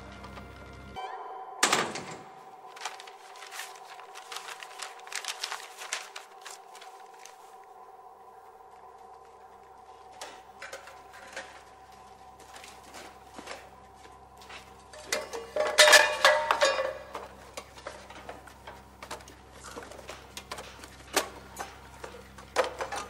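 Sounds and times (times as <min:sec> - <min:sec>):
steady hum: 0:00.0 - 0:23.0
paper rustling and crinkling: 0:02.5 - 0:08.0, 0:08.6 - 0:23.0.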